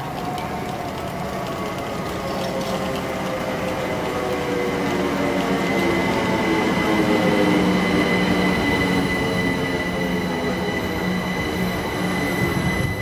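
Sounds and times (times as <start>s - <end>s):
train wheel rumble: 0.0s - 13.0s.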